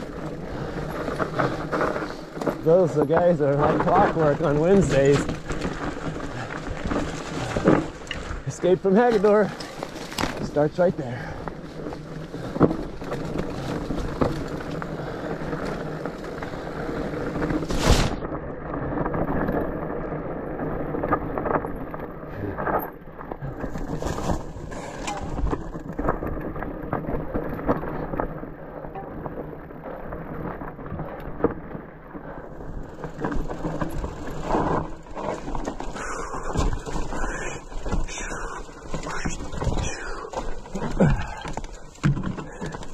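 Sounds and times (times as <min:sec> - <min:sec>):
bike knocks and rattles: 0:00.0 - 0:42.9
bike tyres rolling on dirt: 0:00.0 - 0:42.9.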